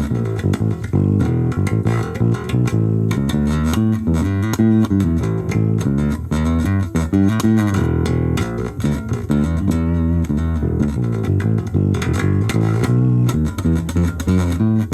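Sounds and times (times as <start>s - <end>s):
plucked electric bass: 0.0s - 14.9s.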